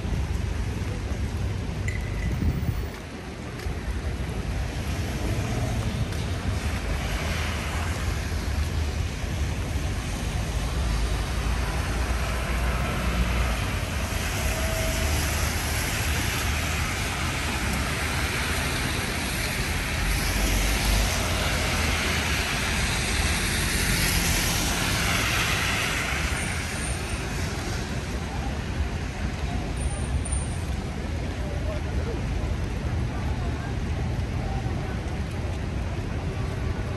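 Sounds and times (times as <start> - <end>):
city street traffic: 0.0 - 36.9
vehicles passing on wet road: 0.0 - 36.9.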